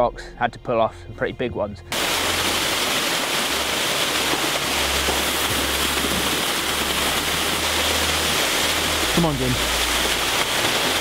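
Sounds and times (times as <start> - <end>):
waterfall rushing and splashing: 1.9 - 11.0.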